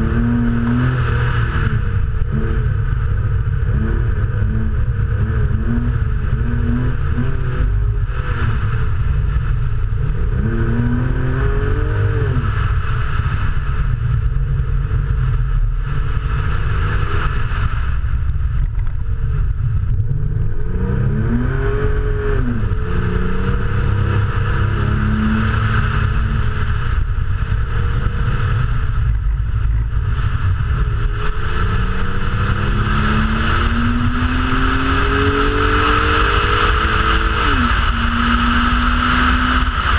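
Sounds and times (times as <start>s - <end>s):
car engine accelerating: 0.0s - 39.9s
road and wind rumble: 0.0s - 39.9s.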